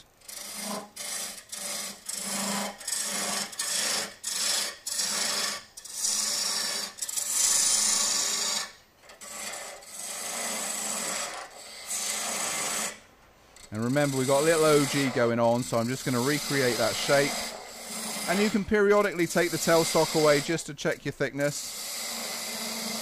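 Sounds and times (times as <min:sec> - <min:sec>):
gouge cutting wood on lathe: 0:00.0 - 0:23.0.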